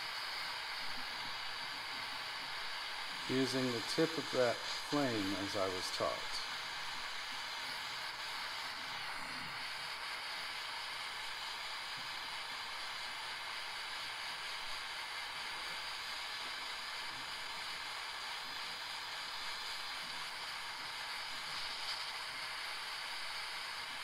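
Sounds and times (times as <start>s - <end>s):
gas torch hissing: 0.0s - 24.0s.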